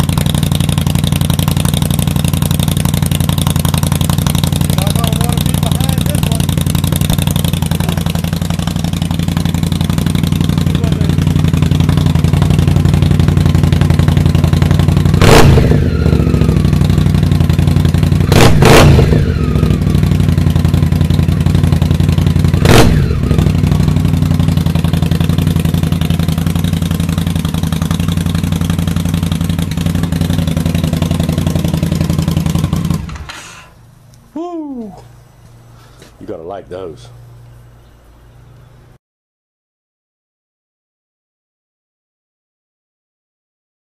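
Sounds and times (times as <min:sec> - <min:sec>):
motorcycle engine idling: 0:00.0 - 0:36.2.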